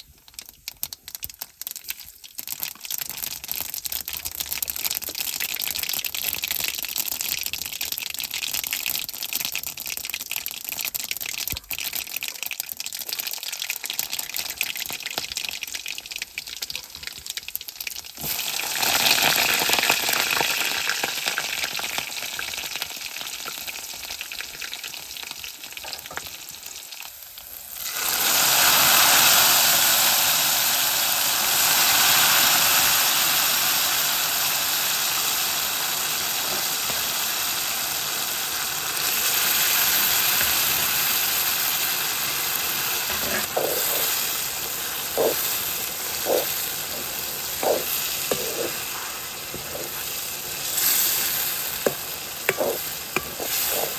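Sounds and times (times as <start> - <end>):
oil sizzling in a wok: 0.0 - 53.9.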